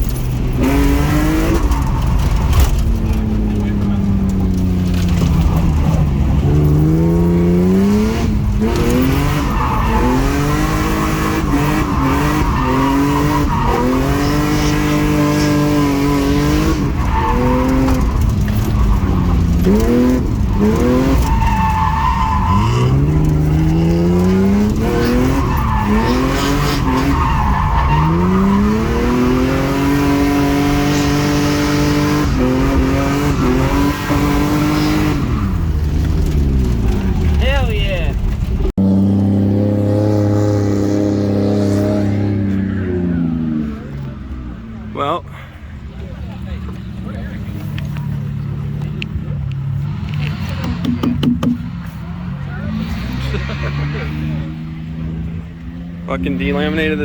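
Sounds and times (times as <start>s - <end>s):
car engine revving: 0.0s - 45.2s, 45.8s - 57.0s
tires squealing: 0.0s - 57.0s.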